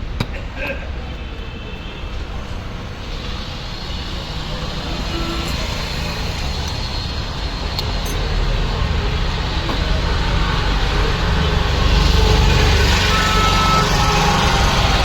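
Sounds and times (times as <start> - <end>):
vehicle engine rumbling: 2.6 - 15.0.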